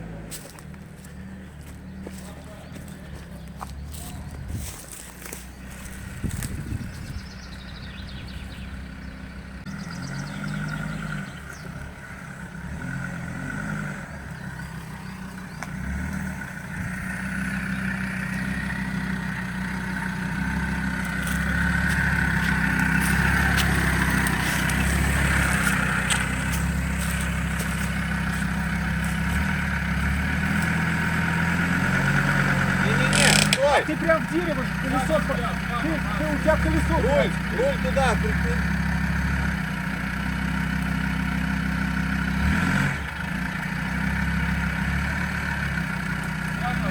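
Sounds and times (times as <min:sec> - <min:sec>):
engine running at low revs: 0:00.0 - 0:46.9.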